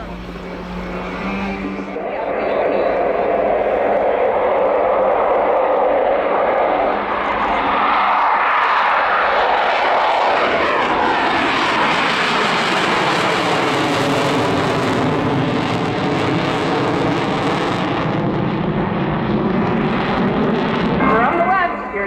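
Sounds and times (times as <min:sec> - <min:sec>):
jet aircraft flying past: 0:00.0 - 0:22.0.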